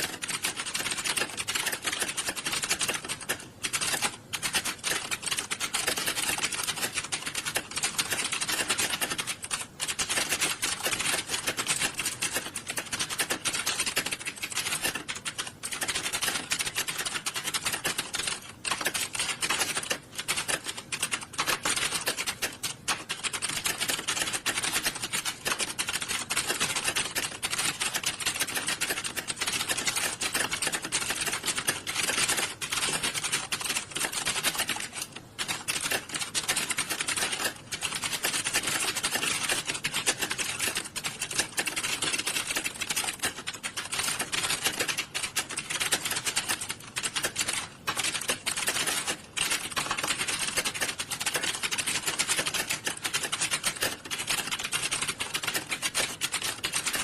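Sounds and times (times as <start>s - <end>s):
many keyboards typing: 0.0s - 57.0s.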